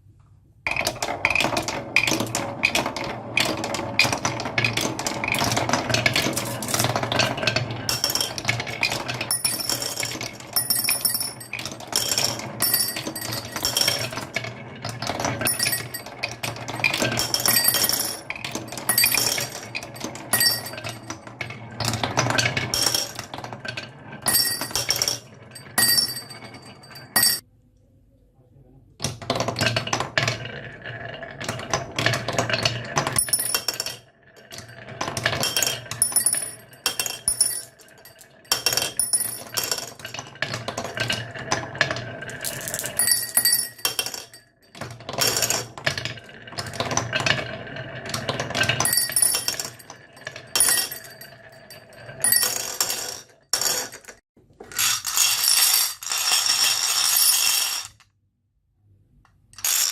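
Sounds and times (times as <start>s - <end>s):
marbles rolling and clattering: 0.7s - 27.4s, 29.0s - 58.1s, 59.6s - 59.9s.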